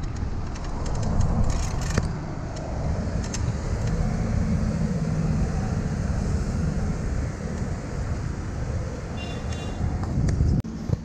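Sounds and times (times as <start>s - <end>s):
road noise: 0.0s - 11.0s
wind rumbling on microphone: 0.0s - 11.0s.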